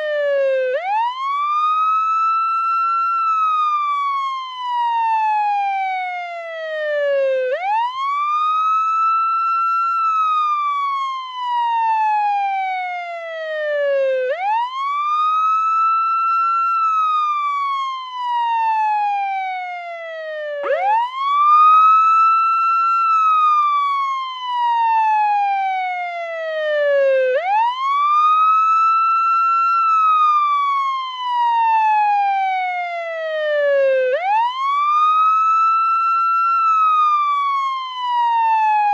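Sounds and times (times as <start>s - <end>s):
ambulance siren wailing: 0.0s - 38.9s.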